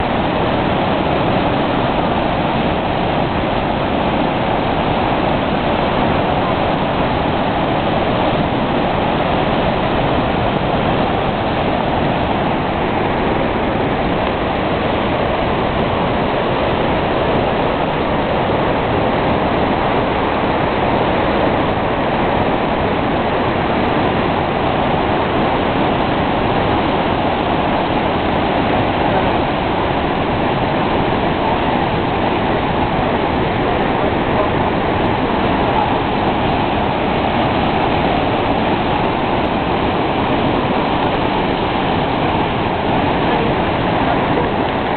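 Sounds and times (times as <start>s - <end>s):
rush of falling water: 0.0s - 44.9s.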